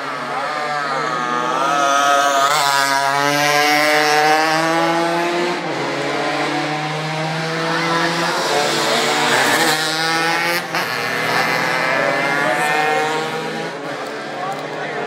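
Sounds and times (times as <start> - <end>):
two-stroke moped engines revving: 0.0 - 15.0.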